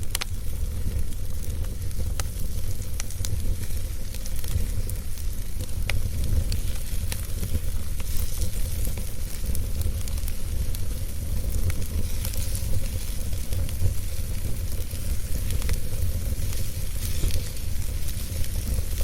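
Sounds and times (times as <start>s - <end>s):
crackles and pops of burning wood: 0.0s - 19.0s
wood fire burning: 0.0s - 19.0s.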